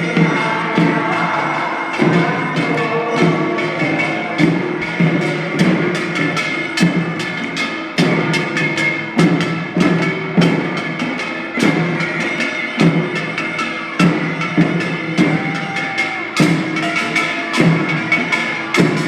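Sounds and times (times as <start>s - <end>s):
percussion strikes: 0.0s - 19.0s.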